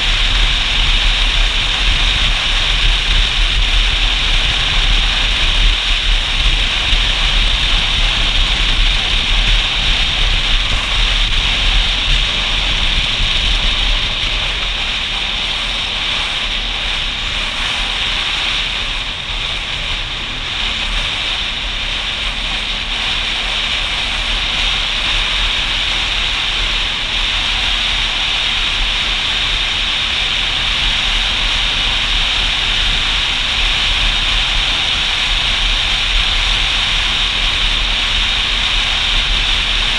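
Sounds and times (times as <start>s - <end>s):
motorcycle engine and road noise: 0.0s - 39.9s
wind on microphone: 0.0s - 39.9s.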